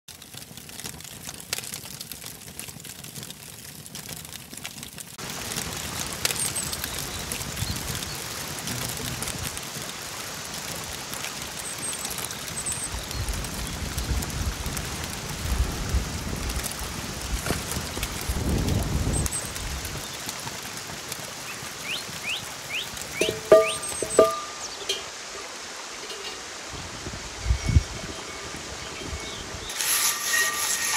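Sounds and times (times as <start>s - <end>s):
campfire crackling and popping: 0.1s - 26.6s.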